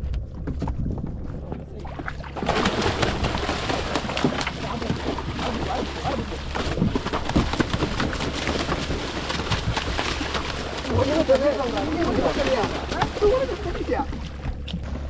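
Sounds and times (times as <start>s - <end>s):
boat engine humming: 0.0s - 15.0s
wind and water wash: 0.0s - 15.0s.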